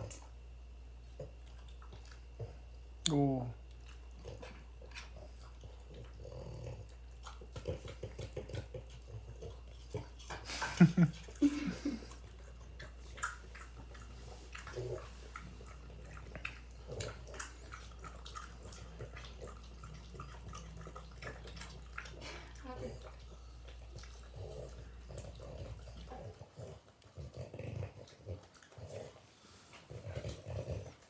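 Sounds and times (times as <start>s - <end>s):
dogs crunching apple: 3.6s - 31.0s.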